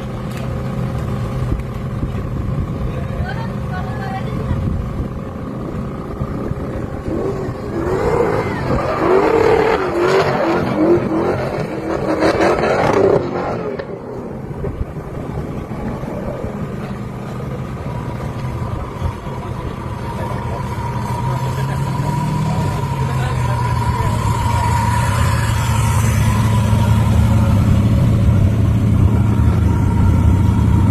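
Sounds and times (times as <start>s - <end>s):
car engine revving: 2.9s - 30.9s.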